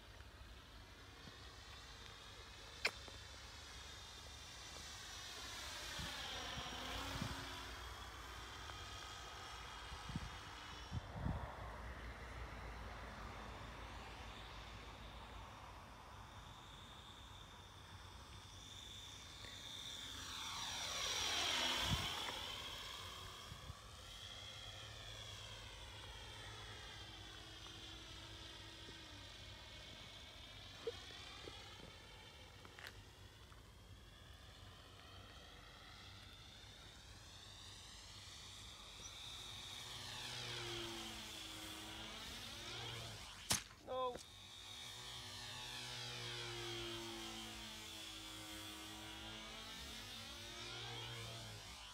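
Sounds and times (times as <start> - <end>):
model plane motor whine: 0.0 - 51.9.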